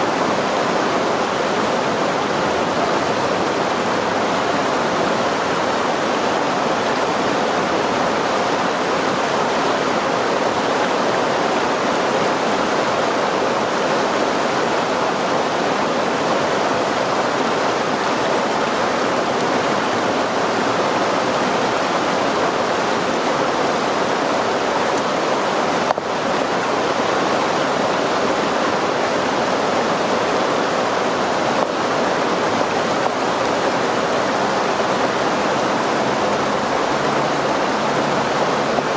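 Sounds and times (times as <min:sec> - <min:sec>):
river stream rushing: 0:00.0 - 0:38.9.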